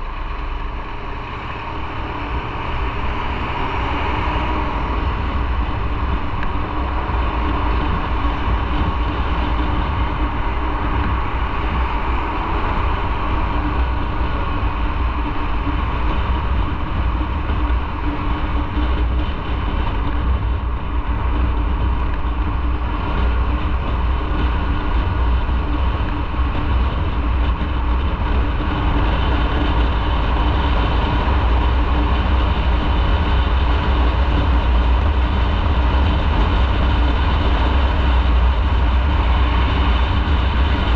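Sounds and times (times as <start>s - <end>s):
motorcycle engine: 0.0s - 40.9s
wind rumble on microphone: 0.0s - 40.9s.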